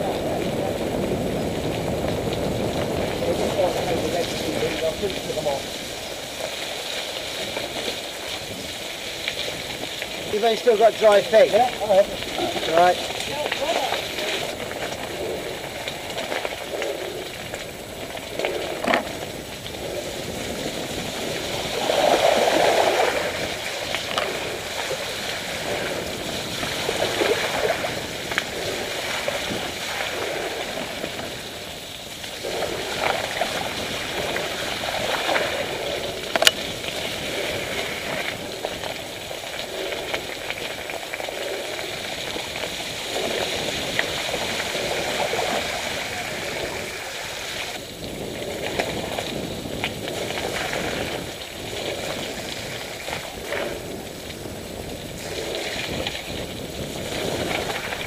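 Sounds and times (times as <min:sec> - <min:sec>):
bike tyres splashing through mud: 0:00.0 - 0:58.0.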